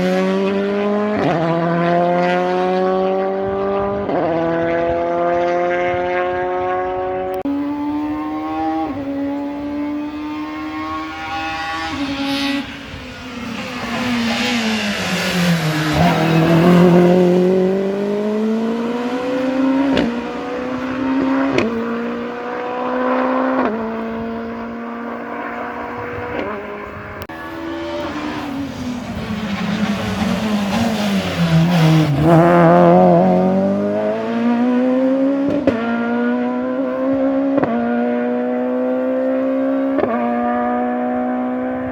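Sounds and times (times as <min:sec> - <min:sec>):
rally car engine upshifting: 0:00.0 - 0:41.9.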